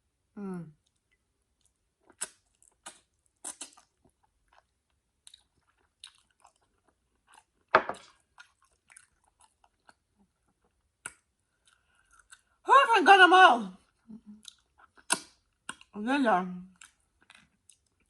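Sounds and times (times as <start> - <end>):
person chewing wetly: 0.8 - 12.6, 14.3 - 16.0, 16.8 - 18.0.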